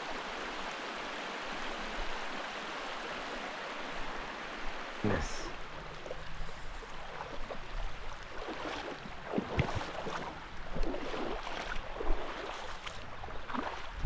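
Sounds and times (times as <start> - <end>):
water lapping against kayak: 0.6 - 14.0.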